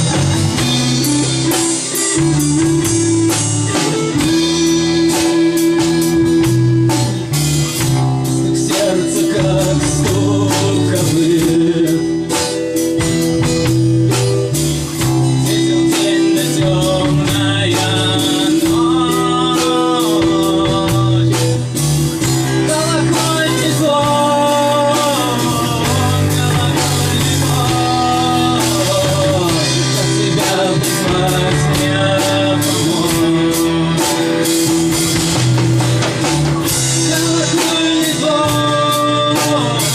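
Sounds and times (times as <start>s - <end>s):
sliding melody line: 0.0s - 12.3s, 14.5s - 39.9s
drum kit: 0.0s - 39.9s
electric guitar: 0.0s - 39.9s.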